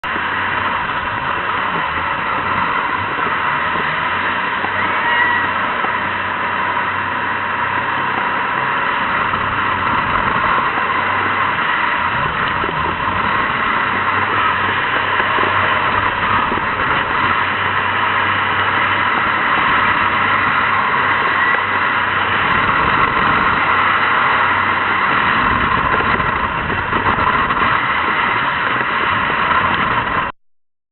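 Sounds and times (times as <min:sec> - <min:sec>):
jet boat engine and water jet: 0:00.0 - 0:30.3.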